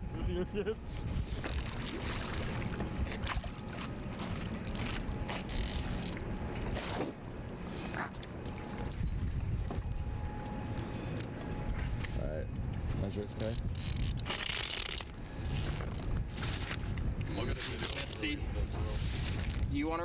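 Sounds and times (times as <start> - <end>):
water around a boat: 0.0 - 20.0
wind: 0.0 - 20.0.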